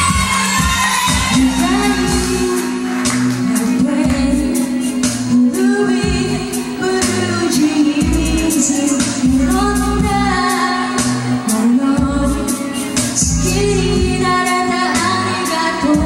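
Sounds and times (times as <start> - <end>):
pop backing track with bass and beat: 0.0 - 16.0
woman singing into a microphone: 0.0 - 16.0.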